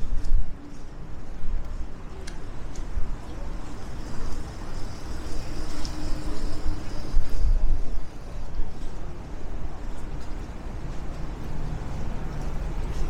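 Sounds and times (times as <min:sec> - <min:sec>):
low rumble of traffic: 0:00.0 - 0:13.0
wind: 0:00.0 - 0:13.0.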